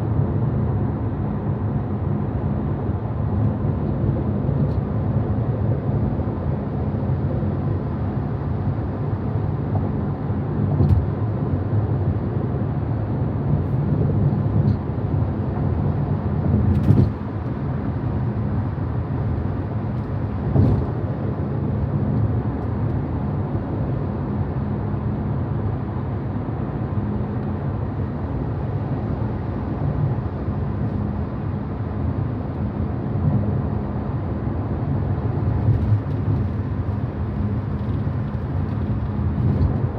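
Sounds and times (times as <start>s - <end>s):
road and tyre rumble in car cabin: 0.0s - 39.9s.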